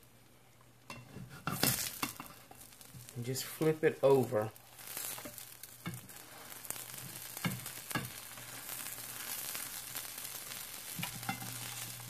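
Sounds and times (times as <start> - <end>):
omelette sizzling in a pan: 0.0 - 12.0.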